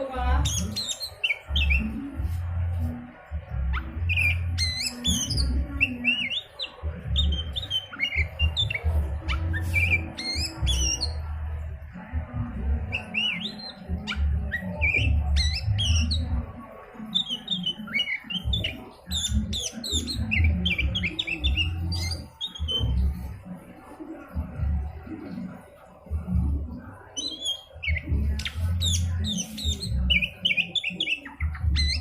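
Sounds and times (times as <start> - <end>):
songbird whistles and trills: 0.4 - 11.4, 12.6 - 23.3, 27.2 - 32.0.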